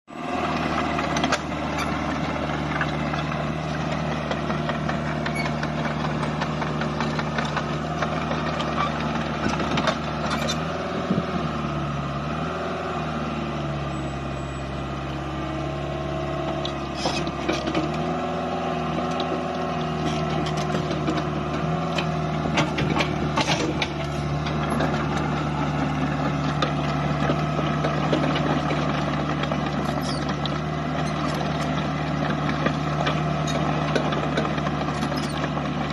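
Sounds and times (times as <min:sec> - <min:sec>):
excavator diesel engine running: 0:00.1 - 0:35.9.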